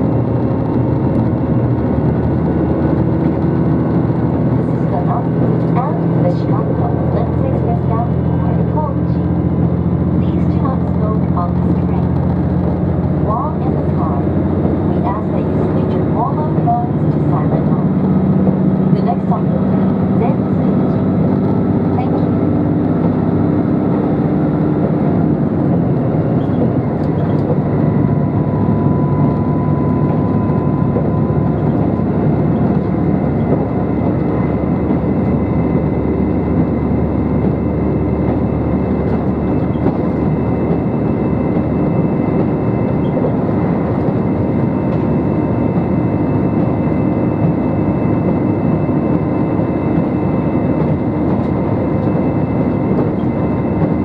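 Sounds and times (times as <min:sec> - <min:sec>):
train engine and wheels rumbling: 0:00.0 - 0:54.0.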